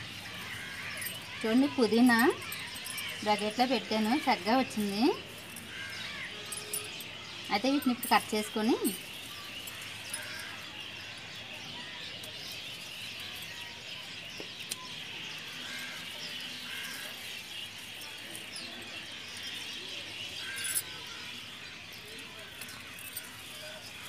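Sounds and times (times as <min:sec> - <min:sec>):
birds chirping: 0:00.0 - 0:24.0
leaves rustling: 0:00.0 - 0:24.0.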